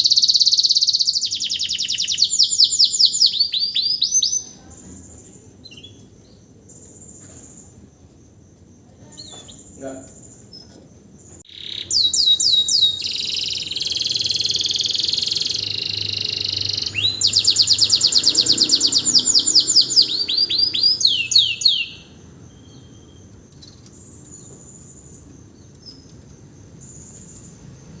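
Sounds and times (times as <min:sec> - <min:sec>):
canary singing: 0:00.0 - 0:07.9, 0:08.8 - 0:27.6.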